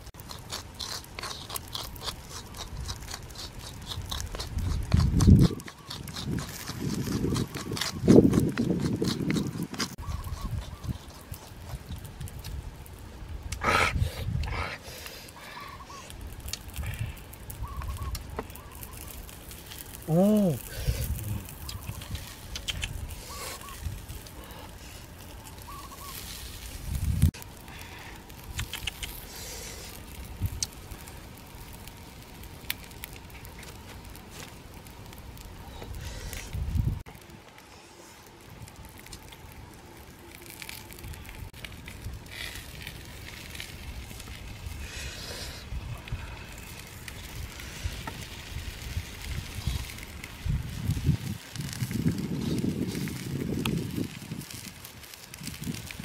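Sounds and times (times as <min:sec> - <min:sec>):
charcoal fire crackling and hissing: 0:00.0 - 0:56.0.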